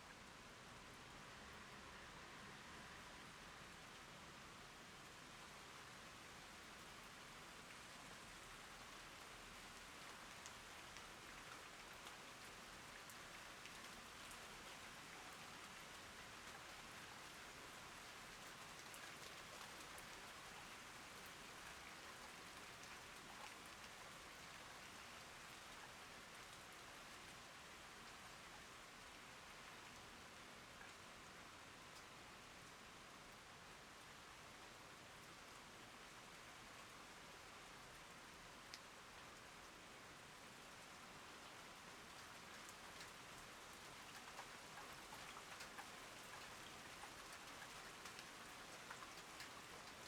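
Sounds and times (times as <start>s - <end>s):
faint rain falling: 0.0s - 50.0s.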